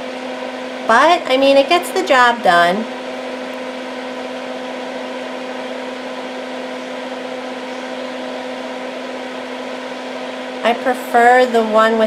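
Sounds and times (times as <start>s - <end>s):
fan running with airy hiss: 0.0s - 12.0s.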